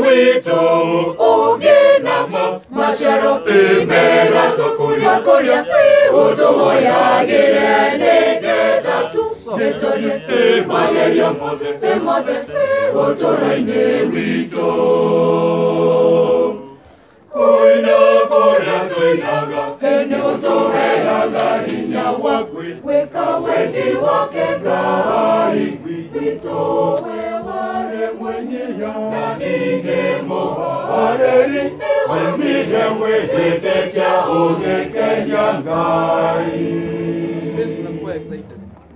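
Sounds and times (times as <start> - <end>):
mixed choir singing a cappella: 0.0 - 38.4.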